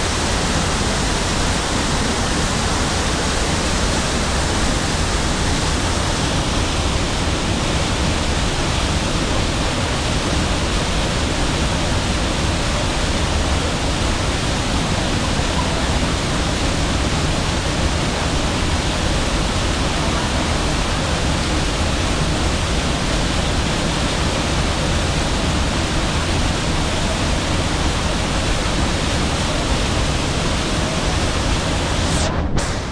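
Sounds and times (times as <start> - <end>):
waterfall rushing over rocks: 0.0 - 32.9.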